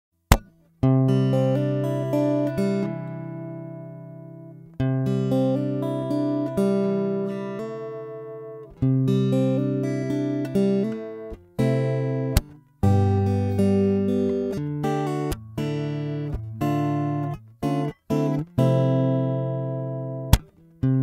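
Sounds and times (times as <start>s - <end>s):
plucked guitar music: 0.3s - 21.0s.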